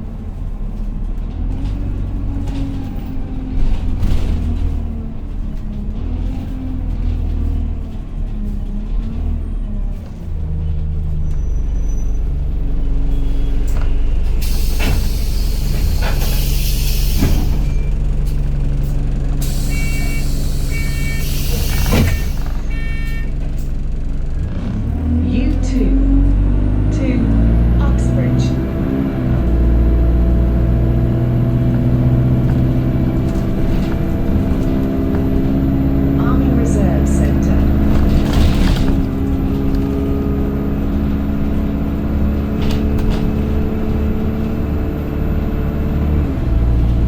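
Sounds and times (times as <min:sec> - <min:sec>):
bus diesel engine droning: 0:00.0 - 0:47.0.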